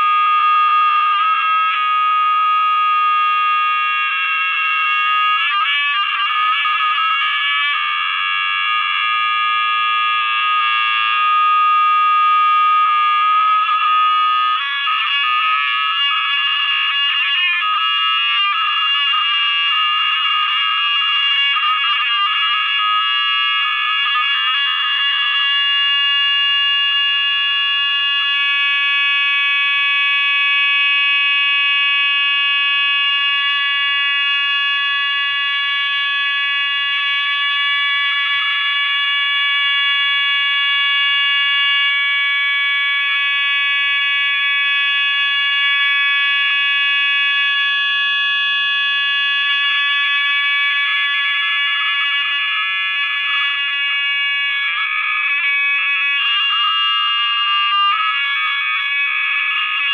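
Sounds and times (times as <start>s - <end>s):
high electronic alarm drone: 0.0s - 59.9s.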